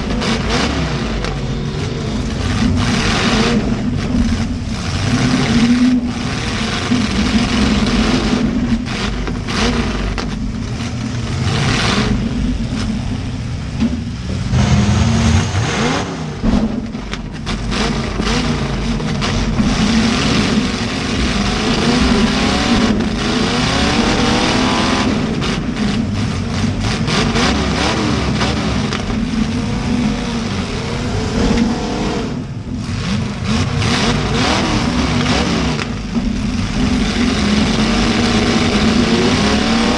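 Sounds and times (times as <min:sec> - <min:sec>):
car engines revving hard: 0:00.0 - 0:39.9.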